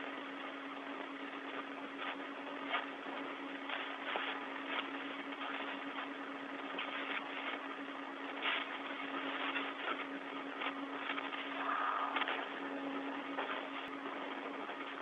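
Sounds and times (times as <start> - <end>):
constant low hum: 0.0 - 15.0
radio crackles: 0.8 - 15.0
radio hiss: 0.8 - 15.0.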